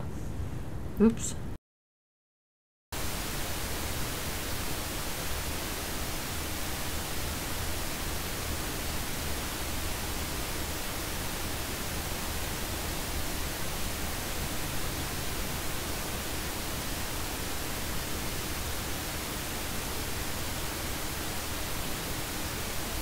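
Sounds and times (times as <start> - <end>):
static hiss: 3.0 - 23.0.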